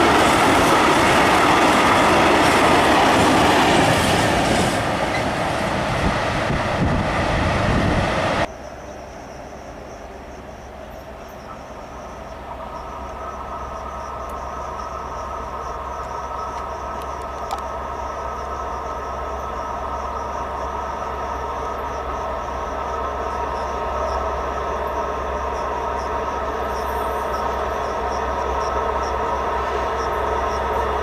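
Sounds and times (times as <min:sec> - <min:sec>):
crickets chirping: 0:00.0 - 0:31.0
diesel locomotive engine running: 0:00.0 - 0:31.0.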